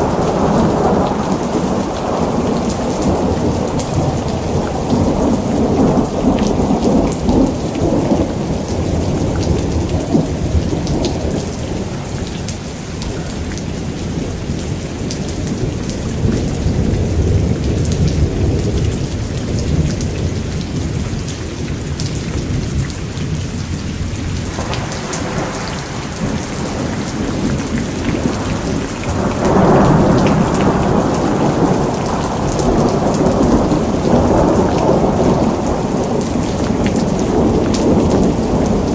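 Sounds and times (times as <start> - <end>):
steady rain: 0.0 - 38.9
thunder rumbling: 0.0 - 38.9.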